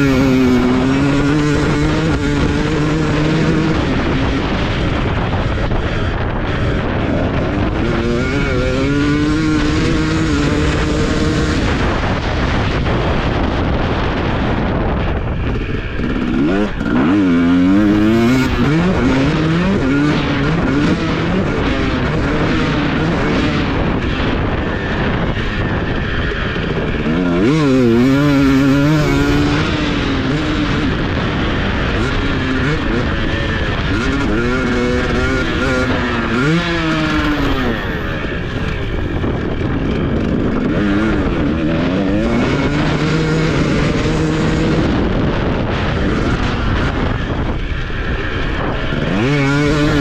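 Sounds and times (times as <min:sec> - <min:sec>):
motocross bike engine revving: 0:00.0 - 0:50.0
wind noise: 0:00.0 - 0:50.0.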